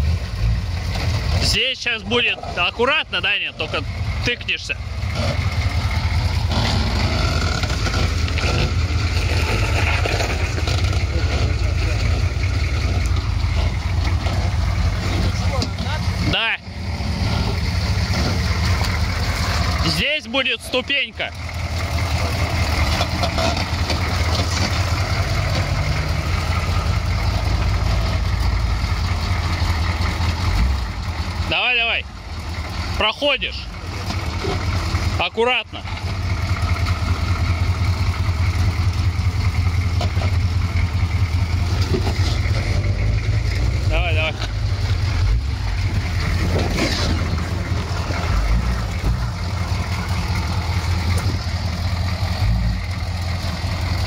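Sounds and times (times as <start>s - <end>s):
diesel engine at low revs: 0.0s - 54.0s.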